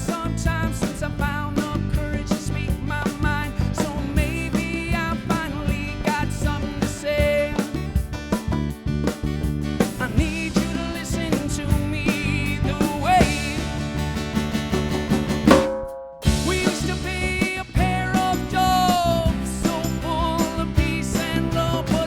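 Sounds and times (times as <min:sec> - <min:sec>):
drum kit: 0:00.0 - 0:22.0
live band playing: 0:00.0 - 0:22.0.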